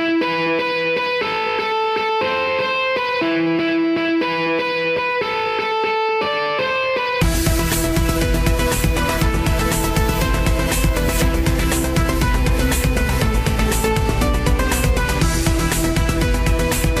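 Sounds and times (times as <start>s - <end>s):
plucked guitar-like melody: 0.0s - 17.0s.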